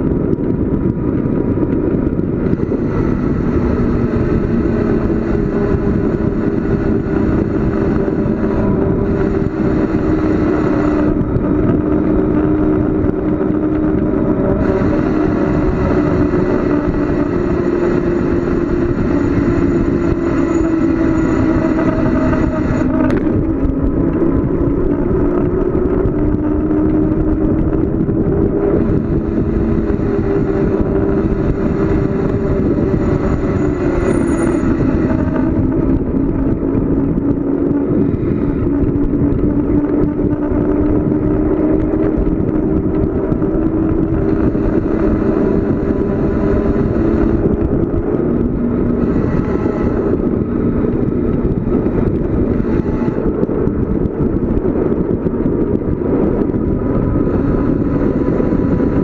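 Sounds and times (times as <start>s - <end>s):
bicycle road noise: 0.0s - 59.0s
low hum: 0.0s - 59.0s
wind rushing: 0.0s - 59.0s.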